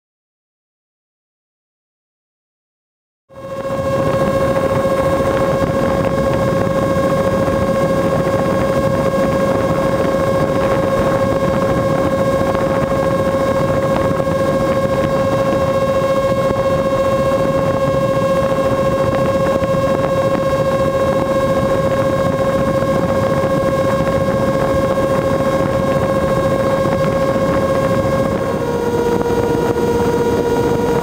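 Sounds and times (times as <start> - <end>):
electric motors and propellers whining: 3.3 - 31.0.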